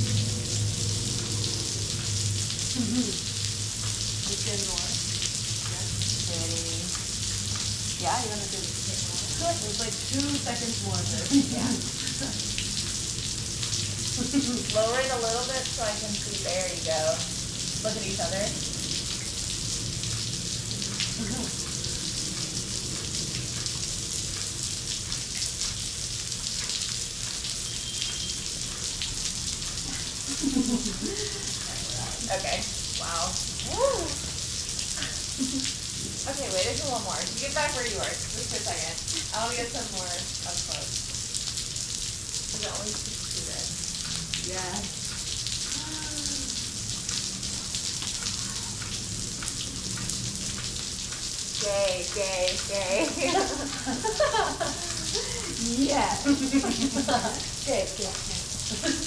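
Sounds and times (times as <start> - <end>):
water falling like rain: 0.0 - 59.0.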